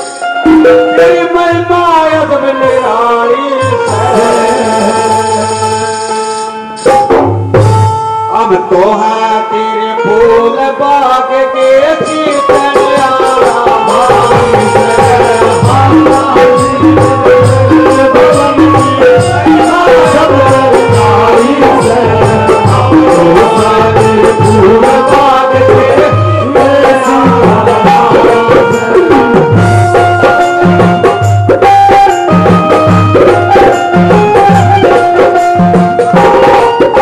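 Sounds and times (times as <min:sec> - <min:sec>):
steady drum beat: 0:00.0 - 0:06.2, 0:06.8 - 0:08.5, 0:11.8 - 0:37.0
harmonium melody: 0:00.0 - 0:37.0.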